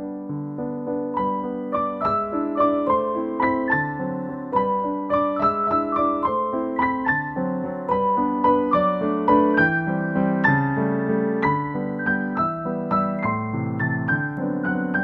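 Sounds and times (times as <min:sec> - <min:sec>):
piano music single notes: 0:00.0 - 0:15.0.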